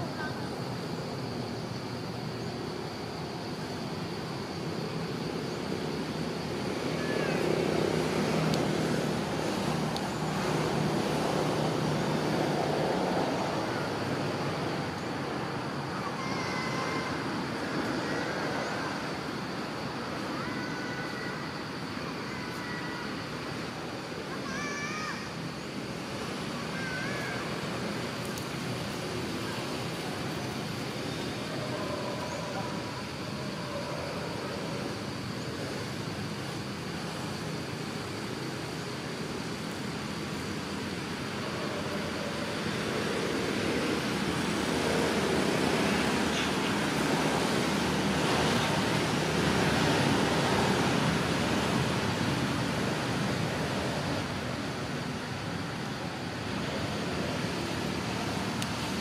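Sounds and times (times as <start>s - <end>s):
rushing outdoor background noise: 0.0s - 59.0s.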